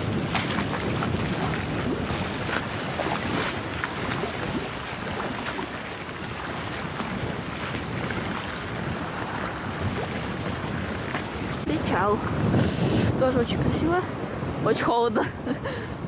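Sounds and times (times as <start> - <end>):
waves lapping against concrete: 0.0 - 15.8
wind buffeting microphone: 0.0 - 16.0.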